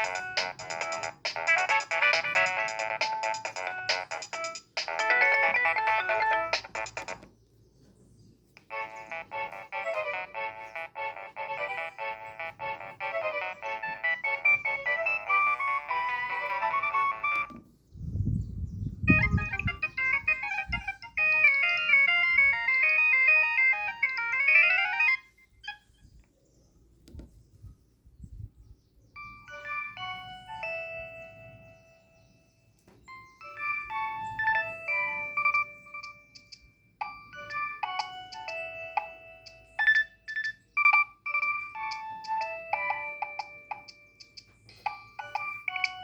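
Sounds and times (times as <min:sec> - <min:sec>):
electronic ringtone melody: 0:00.0 - 0:07.3, 0:08.7 - 0:17.6, 0:19.1 - 0:25.9, 0:29.2 - 0:46.0
polyphonic ringtone melody: 0:00.0 - 0:07.3, 0:08.6 - 0:17.6, 0:19.1 - 0:25.9, 0:29.2 - 0:46.0.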